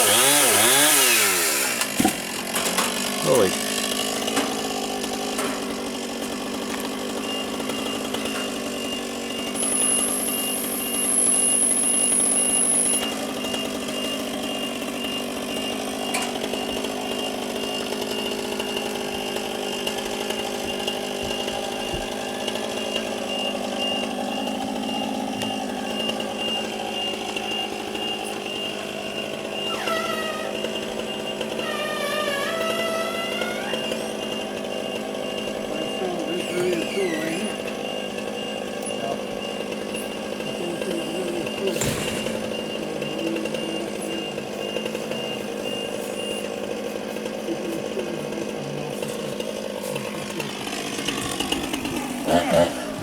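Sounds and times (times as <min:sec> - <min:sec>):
chainsaw engine running: 0:00.0 - 0:53.0.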